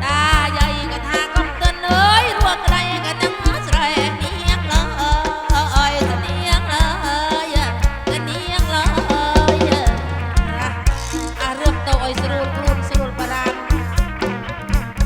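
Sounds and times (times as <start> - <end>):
folk music through loudspeakers: 0.0 - 15.0.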